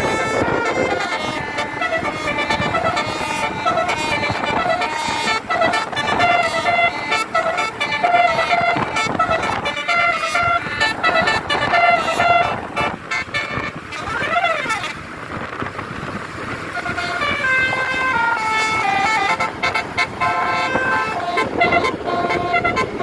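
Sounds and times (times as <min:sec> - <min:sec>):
multi-tone musical bus horn: 0:00.0 - 0:23.0.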